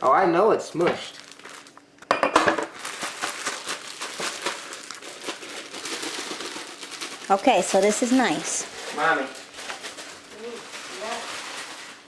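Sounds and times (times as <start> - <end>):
plastic bag crinkling: 0.8 - 2.1, 2.7 - 12.0.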